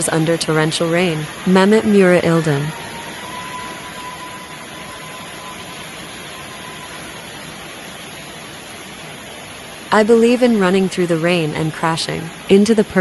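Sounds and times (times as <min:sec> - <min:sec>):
faint steady tone: 0:00.0 - 0:13.0
steady rain falling: 0:00.0 - 0:13.0.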